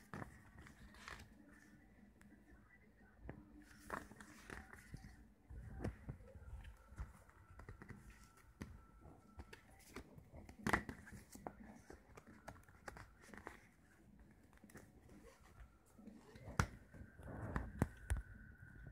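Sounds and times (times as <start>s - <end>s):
light clicks and card rustles: 0.0s - 2.4s, 3.3s - 18.4s.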